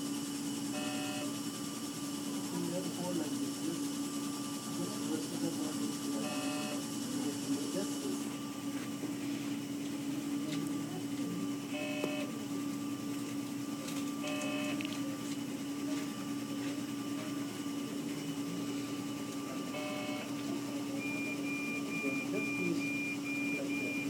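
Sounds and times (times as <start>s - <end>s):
medical equipment hum: 0.0s - 24.0s.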